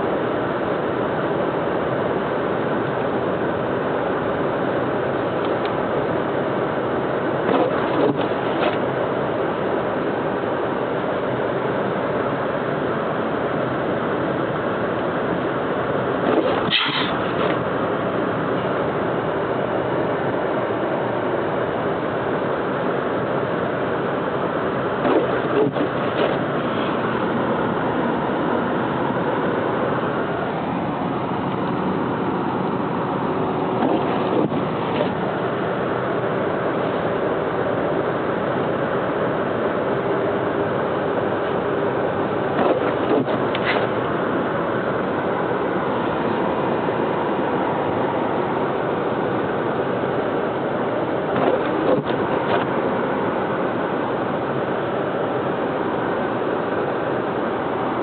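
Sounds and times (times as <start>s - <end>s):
car road and engine noise: 0.0s - 58.0s.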